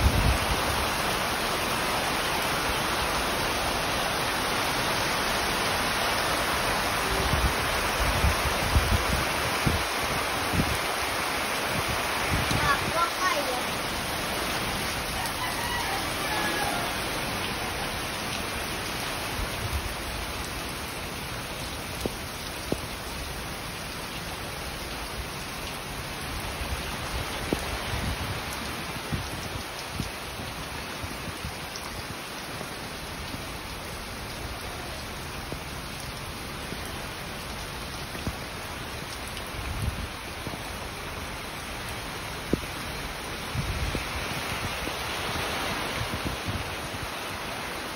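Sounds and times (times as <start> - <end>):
heavy rain on wet ground: 0.0 - 47.9.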